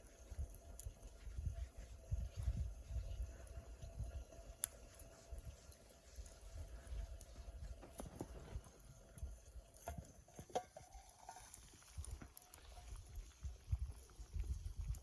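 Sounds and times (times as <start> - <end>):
small wood fire crackling: 0.0 - 15.0.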